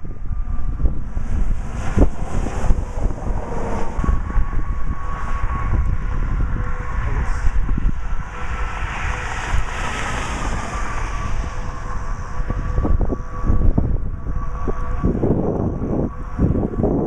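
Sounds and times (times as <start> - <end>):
faint steady whine: 0.0 - 17.0
wind buffeting microphone: 0.0 - 17.0.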